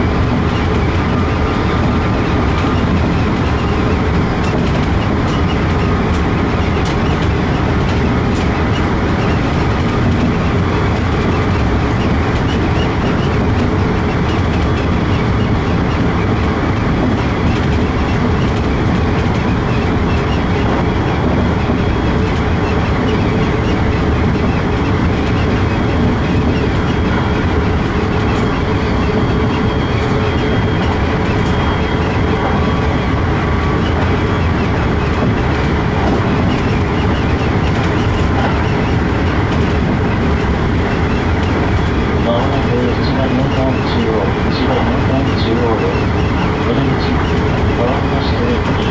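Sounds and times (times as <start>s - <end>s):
train wheels rumbling on track: 0.0s - 48.9s.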